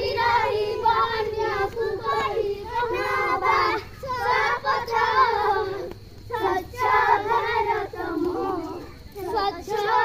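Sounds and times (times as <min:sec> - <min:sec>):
children singing a rhyme: 0:00.0 - 0:10.0.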